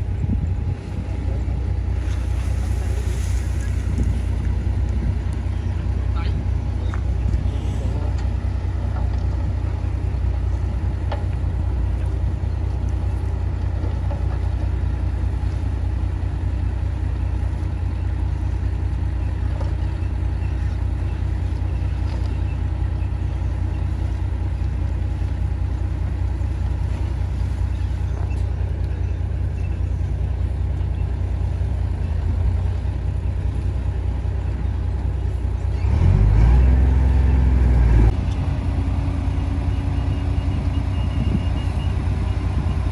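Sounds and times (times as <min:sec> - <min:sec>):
diesel engine rumbling and revving: 0:00.0 - 0:42.9.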